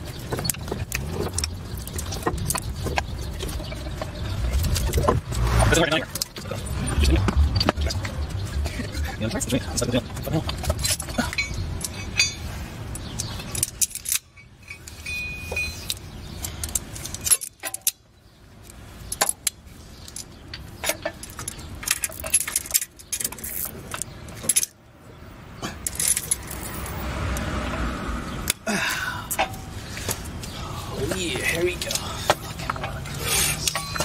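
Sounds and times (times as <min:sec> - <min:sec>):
metal tools clinking and rattling: 0:00.1 - 0:18.0, 0:19.1 - 0:24.8, 0:25.6 - 0:27.0, 0:31.0 - 0:34.0.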